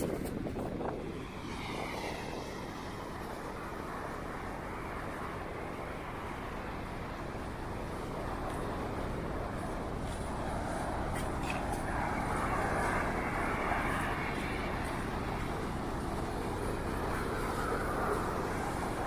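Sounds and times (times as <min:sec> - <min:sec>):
ocean waves washing: 0:01.1 - 0:19.0.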